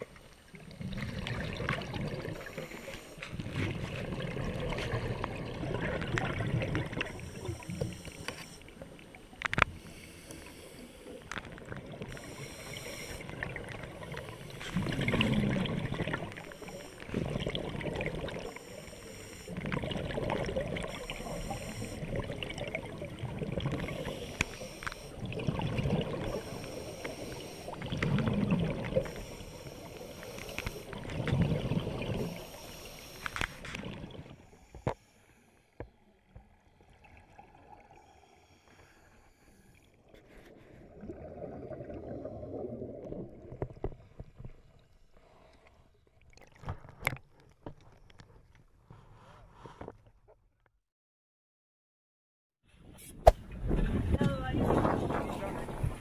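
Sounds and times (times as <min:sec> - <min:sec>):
water sloshing and gurgling: 0:00.0 - 0:50.7, 0:52.8 - 0:56.0.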